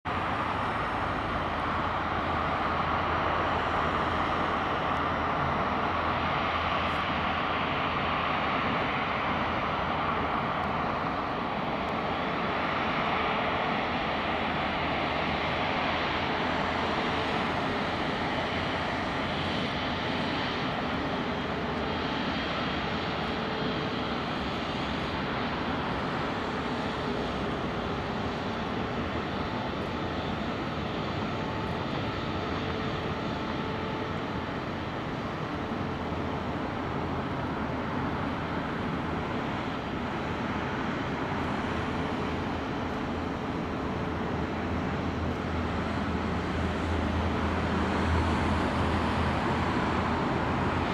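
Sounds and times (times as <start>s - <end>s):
jet engines at taxi power: 0.0s - 50.9s.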